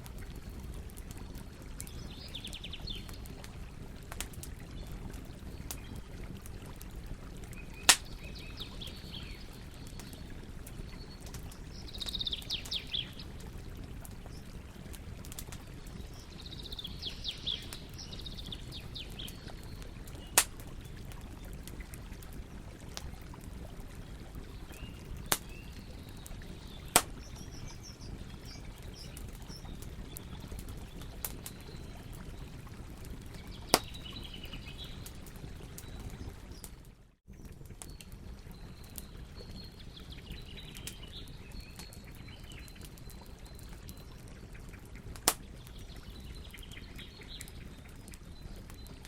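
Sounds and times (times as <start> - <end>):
burning wood popping: 0.0 - 36.8, 40.5 - 49.0
campfire burning: 0.0 - 49.0
small birds twittering: 0.2 - 49.0.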